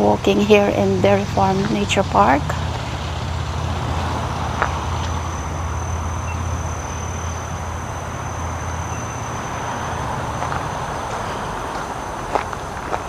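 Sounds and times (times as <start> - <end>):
road traffic rumble: 0.0 - 13.0
high-pitched insect drone: 1.2 - 13.0.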